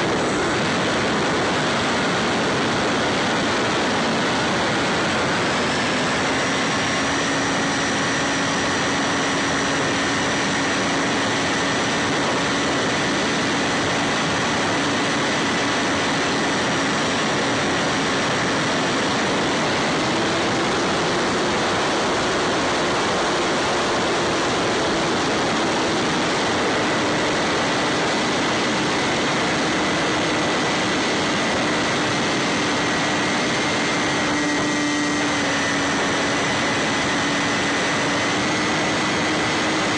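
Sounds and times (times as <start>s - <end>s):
electric motor and propeller running: 0.0s - 39.9s
heavy wind rush: 0.0s - 39.9s.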